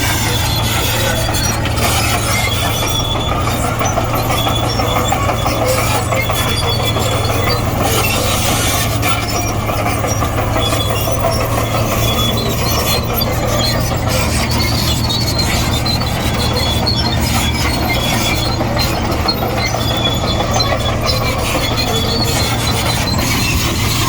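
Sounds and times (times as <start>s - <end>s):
bulldozer diesel engine under load: 0.0s - 24.0s
steel tracks clattering and squealing: 0.0s - 24.0s.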